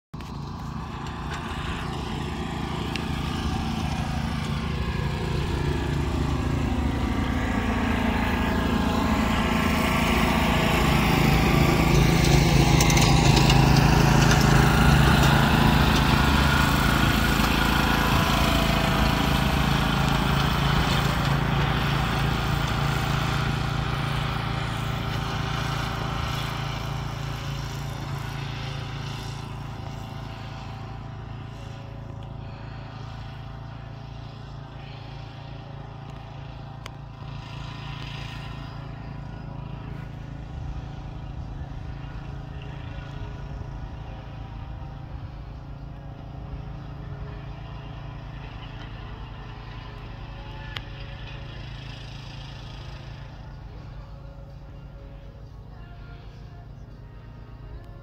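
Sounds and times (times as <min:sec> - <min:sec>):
small truck engine: 0:00.1 - 0:58.0
mower engine running: 0:00.2 - 0:58.0.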